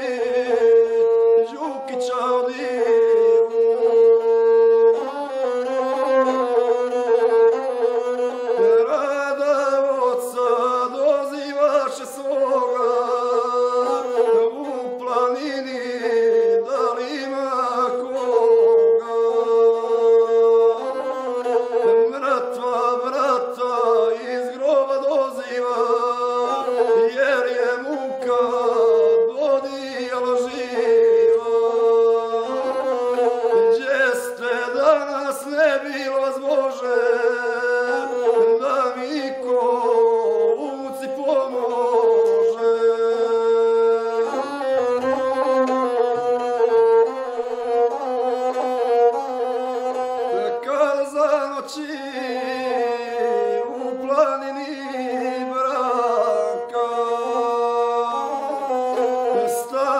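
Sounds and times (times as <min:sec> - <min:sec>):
bowed folk fiddle melody: 0:00.0 - 0:59.9
man singing: 0:00.0 - 0:59.9.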